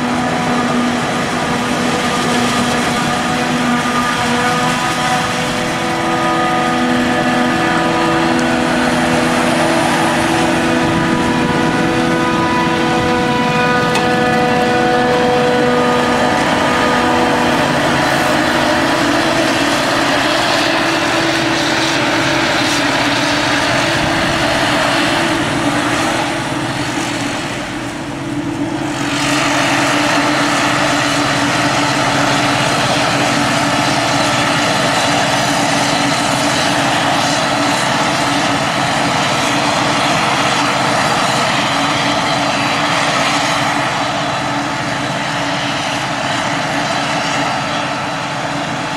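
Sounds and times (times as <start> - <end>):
harvester machine drone: 0.0 - 48.9
machine whine: 0.0 - 48.9.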